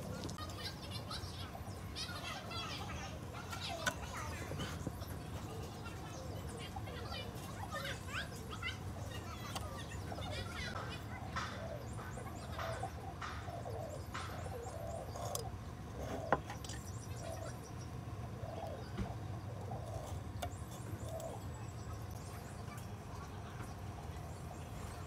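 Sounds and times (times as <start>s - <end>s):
birds chirping: 0.0s - 25.0s
steady low hum: 0.0s - 25.0s.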